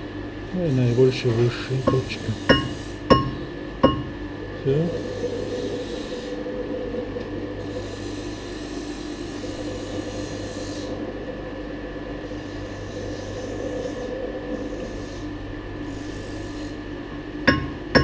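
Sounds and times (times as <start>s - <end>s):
metal lathe humming: 0.6s - 16.8s, 17.4s - 18.0s.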